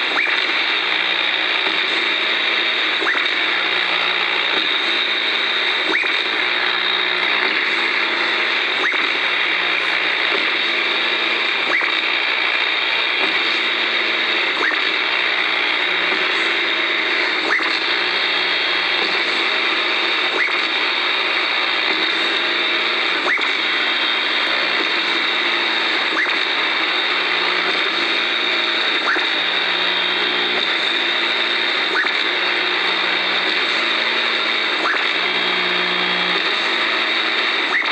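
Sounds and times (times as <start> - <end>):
radio static hiss: 0.0 - 37.9.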